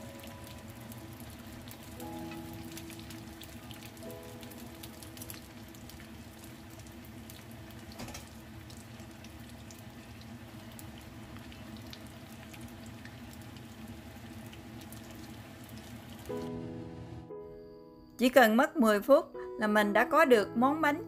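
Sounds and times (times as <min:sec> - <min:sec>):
oil sizzling and crackling: 0:00.0 - 0:17.2.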